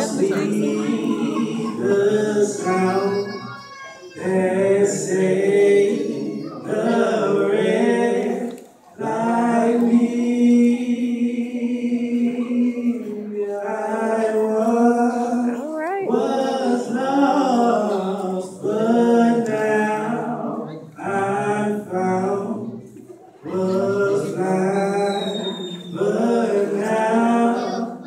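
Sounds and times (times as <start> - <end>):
two men singing a cappella: 0.0 - 3.3, 4.2 - 28.0.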